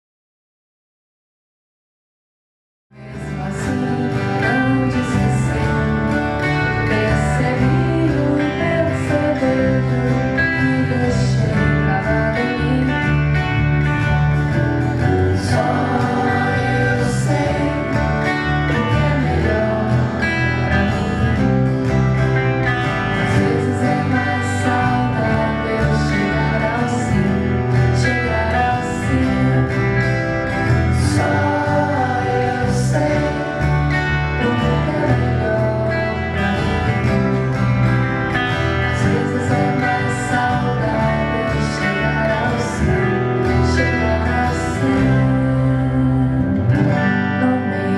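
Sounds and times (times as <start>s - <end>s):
live band led by guitar: 2.9s - 47.9s.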